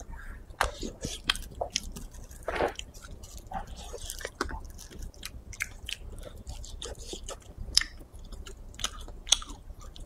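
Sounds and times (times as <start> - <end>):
chewing meat: 0.0 - 10.0.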